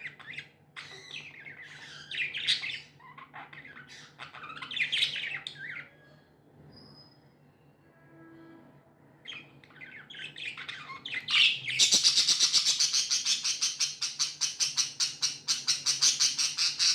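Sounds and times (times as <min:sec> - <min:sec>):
budgies chirping: 0:00.0 - 0:06.1, 0:09.2 - 0:16.9.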